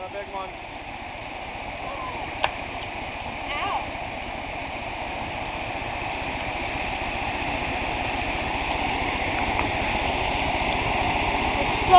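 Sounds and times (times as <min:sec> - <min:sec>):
stream water flowing: 0:00.0 - 0:11.9.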